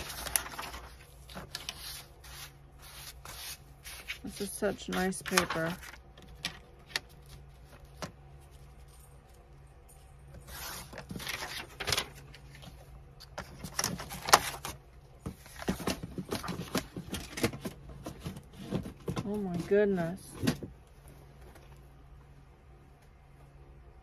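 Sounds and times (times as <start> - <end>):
paper rustling: 0.0 - 9.6, 10.3 - 20.5.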